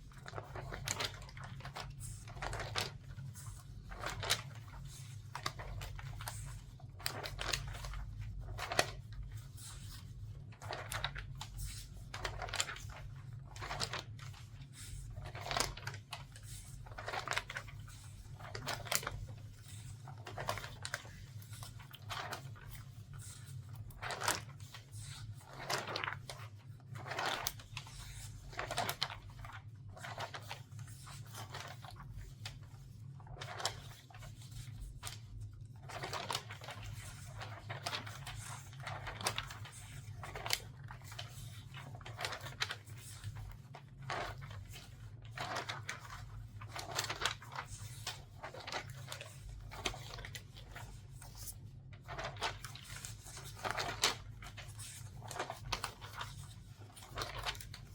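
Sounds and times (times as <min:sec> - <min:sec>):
newspaper pages turning: 0:00.1 - 0:57.9.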